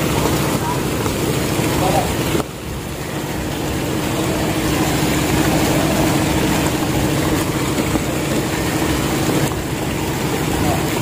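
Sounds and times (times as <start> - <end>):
boat engine humming: 0.0 - 11.0
water wash: 0.0 - 11.0.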